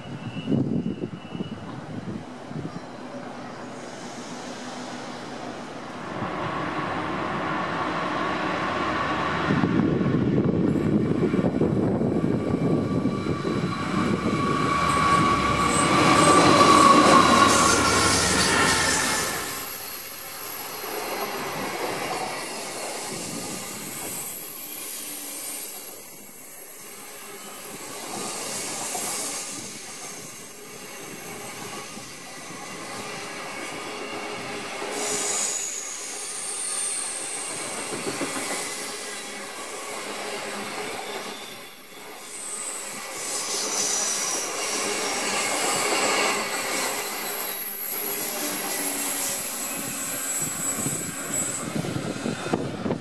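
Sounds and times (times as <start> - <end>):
train wheel squeal: 0.0 - 9.9, 10.6 - 53.0
diesel locomotive engines: 0.0 - 53.0.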